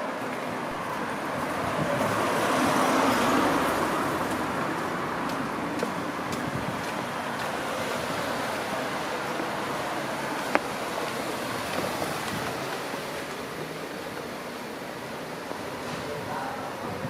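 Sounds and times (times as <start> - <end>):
traffic noise: 0.0 - 17.0
vehicle passing on wet street: 0.0 - 17.0.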